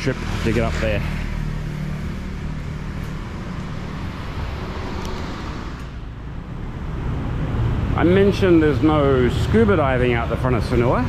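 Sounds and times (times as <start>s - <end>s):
vehicle engines and tyre noise: 0.0s - 11.0s.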